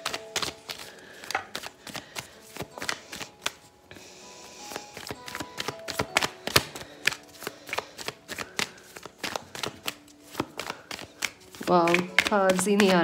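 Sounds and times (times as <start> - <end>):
cards being shuffled: 0.0 - 3.8, 4.4 - 13.0.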